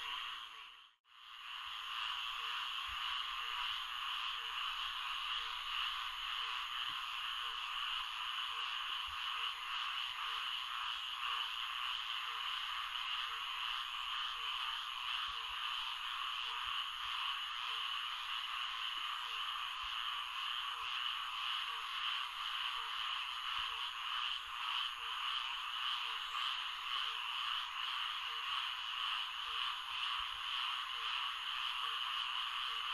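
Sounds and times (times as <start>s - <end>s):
chorus of frogs: 0.0s - 32.9s.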